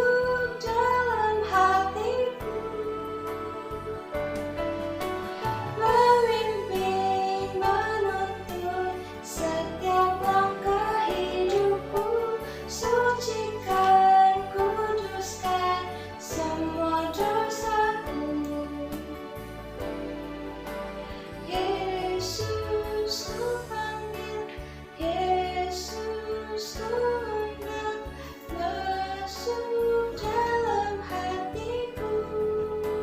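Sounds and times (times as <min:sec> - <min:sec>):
instrumental accompaniment: 0:00.0 - 0:33.0.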